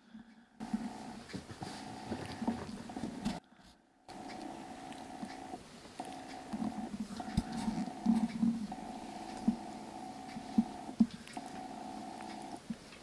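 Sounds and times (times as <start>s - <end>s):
small scratchy clicks: 0.6s - 3.4s, 4.1s - 13.0s
kitten purring: 0.7s - 3.4s, 4.1s - 12.9s.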